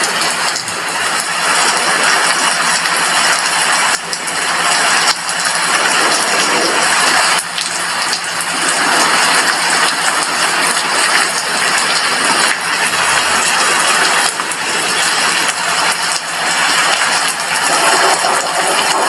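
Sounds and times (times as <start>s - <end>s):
heavy rain on glass window: 0.0s - 19.0s.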